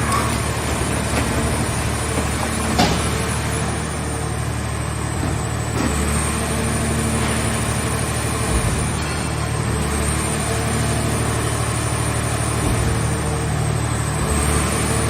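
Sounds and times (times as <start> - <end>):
hydraulic machine engine running: 0.0 - 15.0.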